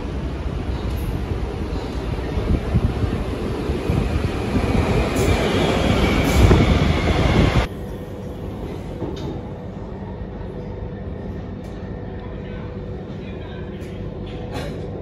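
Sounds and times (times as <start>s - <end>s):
metro train rumble: 0.0s - 15.0s
train running heard from inside: 0.0s - 15.0s.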